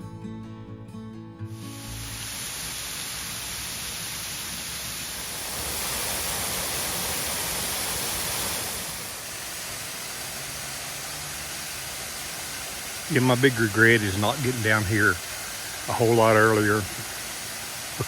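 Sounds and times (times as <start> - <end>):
waterfall rushing: 1.6 - 18.0.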